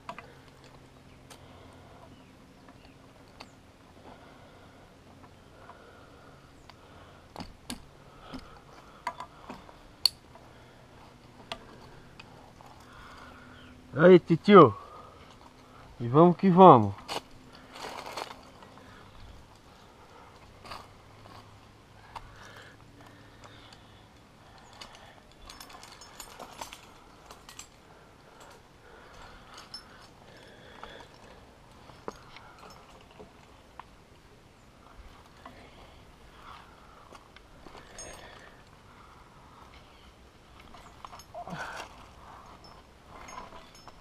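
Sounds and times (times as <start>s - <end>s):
climbing gear clicking: 5.1s - 34.0s, 35.2s - 38.9s, 39.6s - 44.0s.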